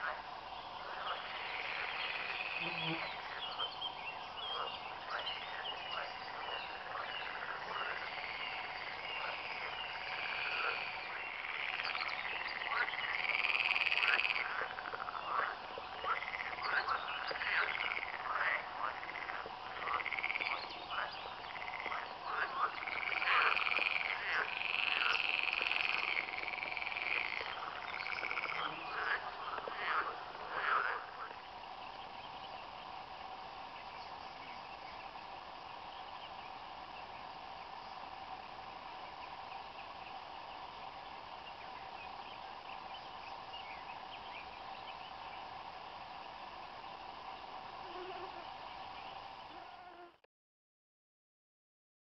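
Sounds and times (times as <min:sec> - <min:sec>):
frogs croaking: 0:00.0 - 0:50.1.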